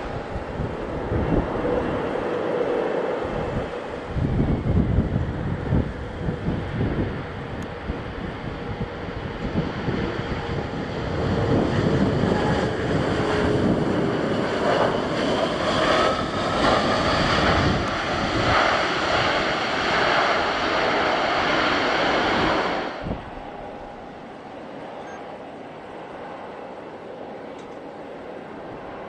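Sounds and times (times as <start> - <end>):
wind on microphone: 0.0 - 24.6
jet engine noise: 0.0 - 29.0.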